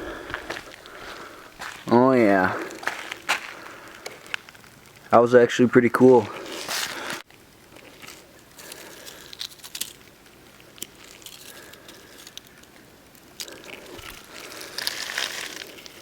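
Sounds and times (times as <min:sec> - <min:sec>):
battery burning with crackles: 0:00.1 - 0:16.0.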